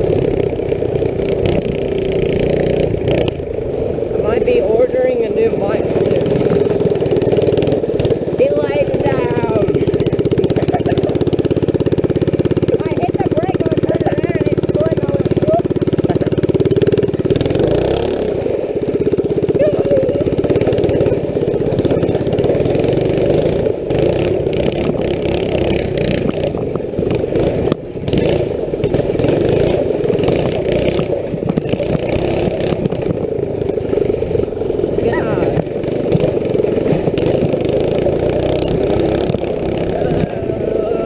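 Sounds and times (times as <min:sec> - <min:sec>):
go-kart engine revving: 0:00.0 - 0:41.0.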